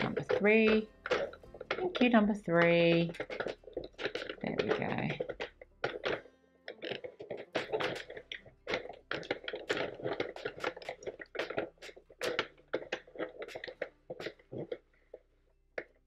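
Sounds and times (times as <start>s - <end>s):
knitting machine needles clacking: 0.0s - 14.7s.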